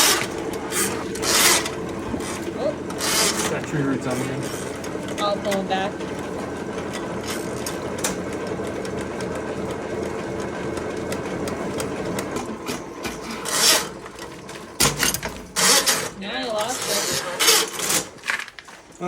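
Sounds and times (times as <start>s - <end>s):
cable whirring and rattling: 0.0s - 19.0s
drain-cleaning machine running: 0.0s - 19.0s.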